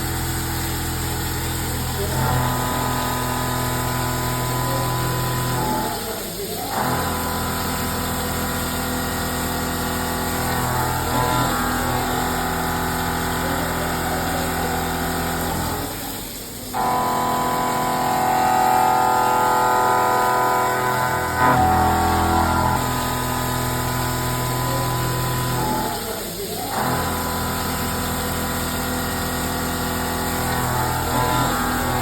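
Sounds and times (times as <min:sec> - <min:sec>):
machine hum with whining tones: 0:00.0 - 0:32.0.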